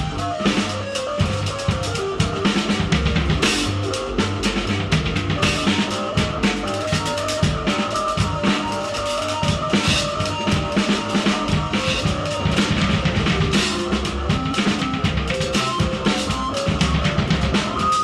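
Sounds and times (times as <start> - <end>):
dense drumming: 0.0 - 18.0
electronic keyboard notes: 0.0 - 18.0.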